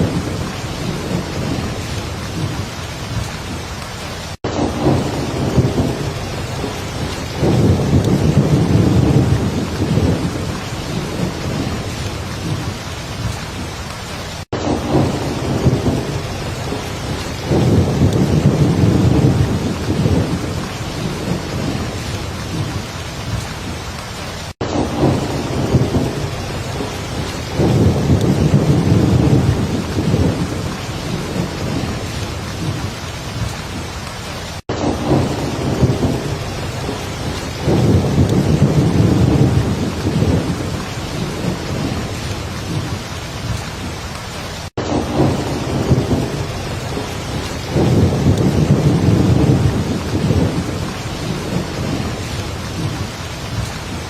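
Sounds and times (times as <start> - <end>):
deep thunder rumbles: 0.0 - 13.8, 14.5 - 54.0
heavy rain: 0.0 - 54.0.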